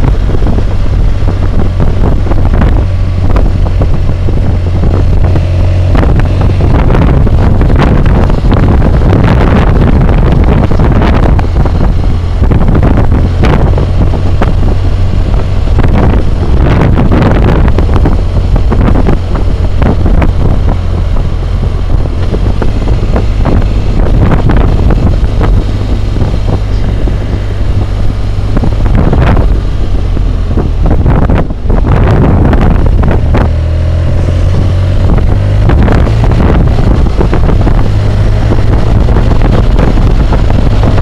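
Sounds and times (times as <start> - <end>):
motorcycle engine running: 0.0 - 41.0
wind roar buffeting microphone: 0.0 - 41.0.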